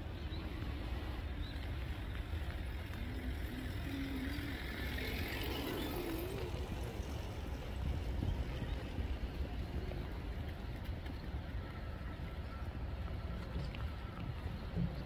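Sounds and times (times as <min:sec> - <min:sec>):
faint wavering hum: 0:00.0 - 0:15.0.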